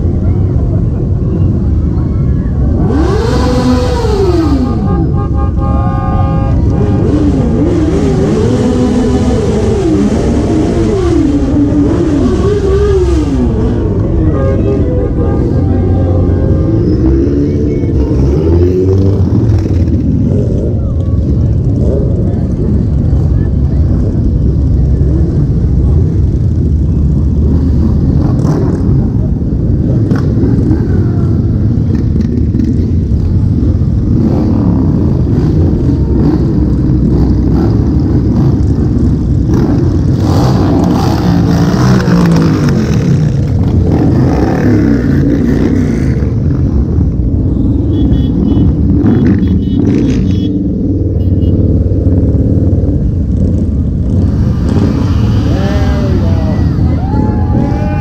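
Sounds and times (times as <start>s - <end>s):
motorcycles passing rumbling: 0.0s - 58.0s.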